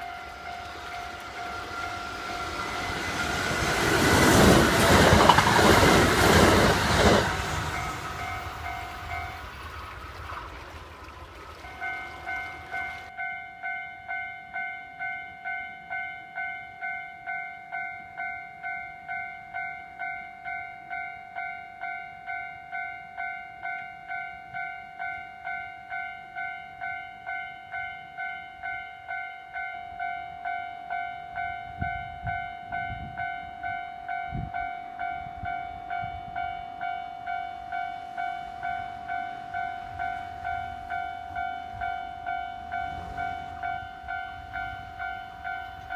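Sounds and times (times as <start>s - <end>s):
level crossing warning bell: 0.0s - 9.5s, 11.6s - 45.9s.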